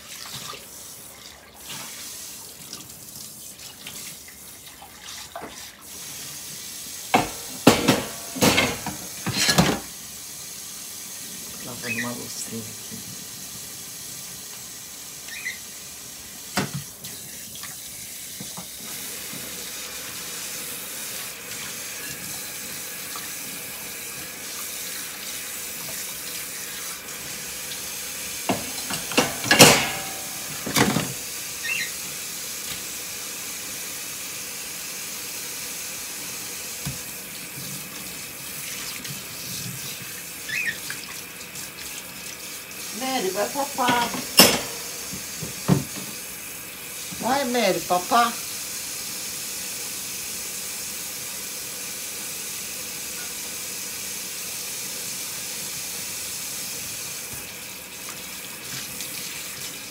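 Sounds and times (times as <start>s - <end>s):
water running from tap: 0.0s - 59.9s.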